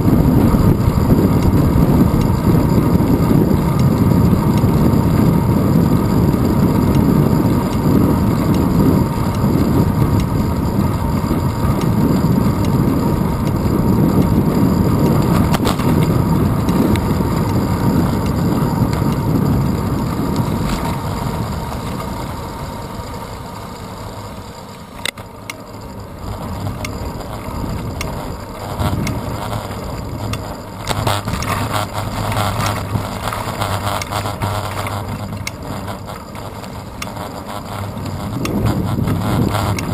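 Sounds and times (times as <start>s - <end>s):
wind rushing over microphone: 0.0s - 22.5s, 26.0s - 39.9s
bicycle tyre road rumble: 0.0s - 39.9s
sharp clicks and rattles: 0.0s - 39.9s.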